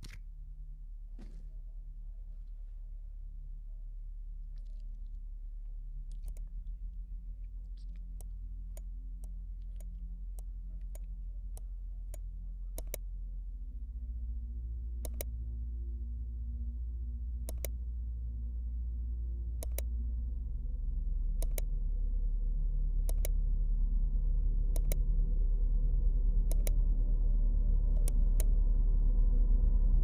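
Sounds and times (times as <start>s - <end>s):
low droning hum: 0.0s - 30.0s.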